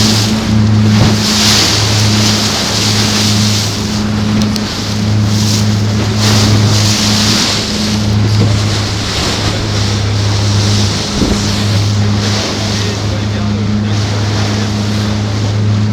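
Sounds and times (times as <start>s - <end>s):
motorboat engine droning: 0.0s - 15.9s
rushing water: 0.0s - 15.9s
wind buffeting microphone: 0.0s - 15.9s.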